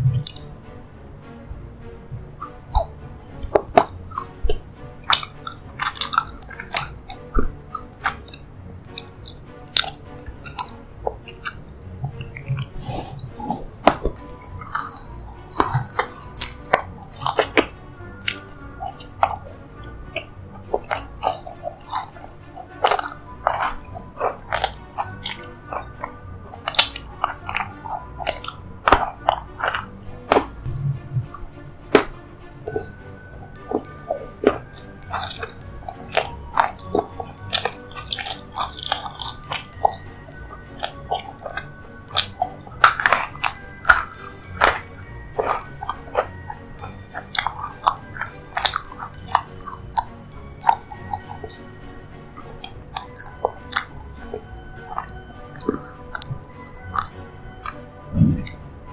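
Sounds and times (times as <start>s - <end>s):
chewing and wet mouth sounds: 0.0s - 0.8s, 2.1s - 58.9s
quiet background music: 0.0s - 58.9s
small crunches and clicks: 2.7s - 51.6s, 52.4s - 58.9s.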